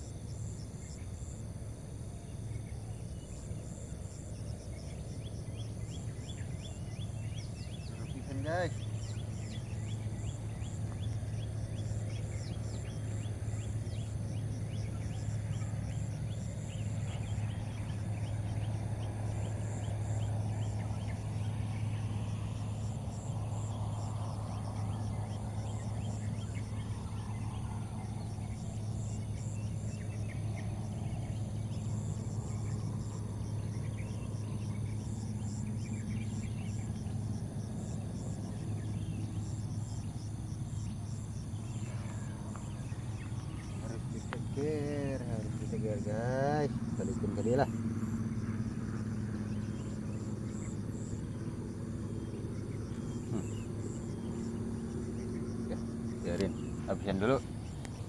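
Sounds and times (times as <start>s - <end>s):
insects chirping: 0.0s - 58.0s
low hum: 0.0s - 58.0s.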